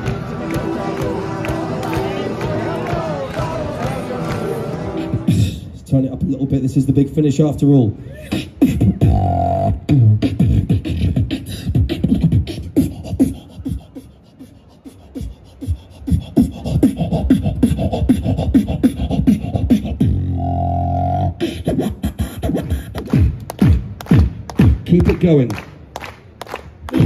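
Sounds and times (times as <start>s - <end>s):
beatboxing through amplifier: 0.0s - 27.0s.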